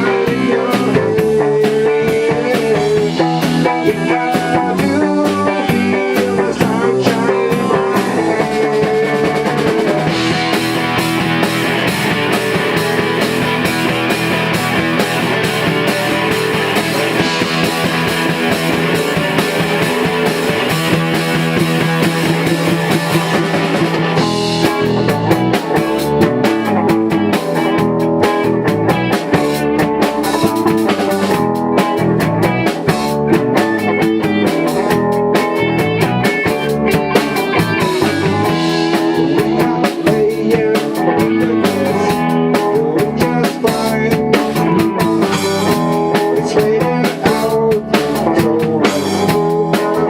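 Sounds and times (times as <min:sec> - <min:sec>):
rock band playing: 0:00.0 - 0:50.0
drum hits: 0:05.7 - 0:50.0.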